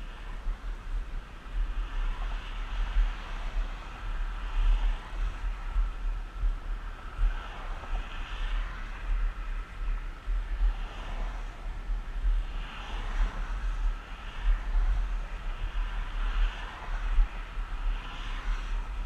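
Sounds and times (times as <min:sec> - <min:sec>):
wheels rolling on asphalt: 0:00.0 - 0:19.0
wind buffeting microphone: 0:00.0 - 0:19.0.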